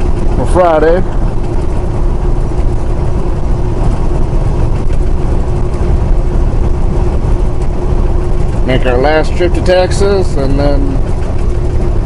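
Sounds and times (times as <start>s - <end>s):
constant low hum: 0.0s - 12.0s
truck engine and road rumble: 0.0s - 12.0s.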